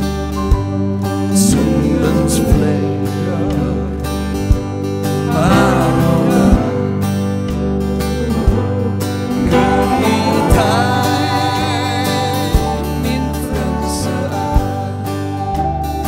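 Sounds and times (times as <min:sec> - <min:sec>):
live band playing slow hymn: 0:00.0 - 0:16.0
wavering lead melody: 0:00.1 - 0:16.0
low drum beat: 0:00.5 - 0:14.9.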